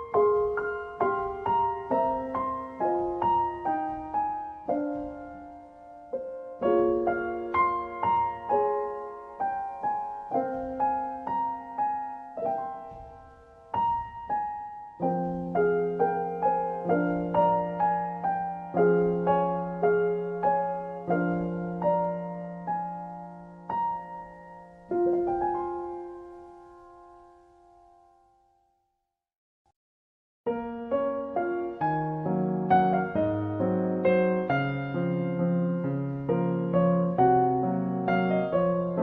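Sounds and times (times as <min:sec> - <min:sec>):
gentle piano melody: 0:00.0 - 0:28.8, 0:30.5 - 0:39.0.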